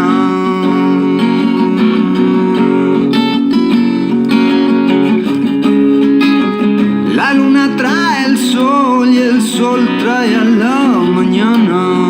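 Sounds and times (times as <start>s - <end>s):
strummed acoustic guitar music: 0.0s - 12.0s.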